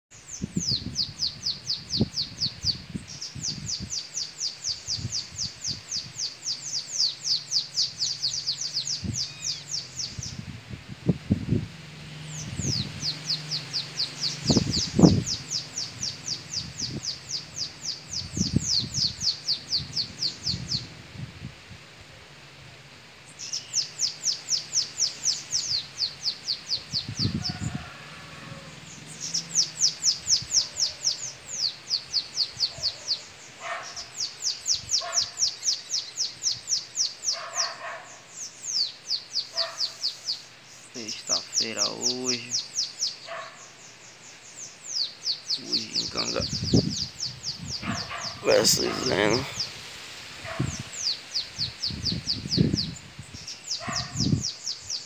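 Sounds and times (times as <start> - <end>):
birds singing rapid high notes: 0.1 - 10.5, 12.1 - 21.0, 23.3 - 49.8, 50.5 - 55.0.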